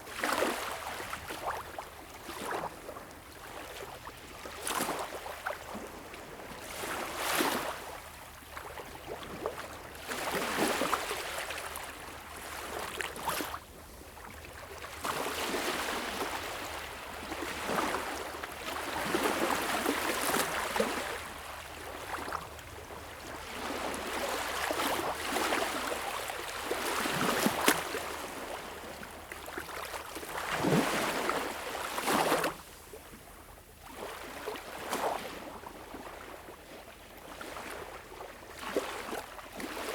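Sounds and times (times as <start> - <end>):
small waves lapping on shore: 0.1 - 39.9.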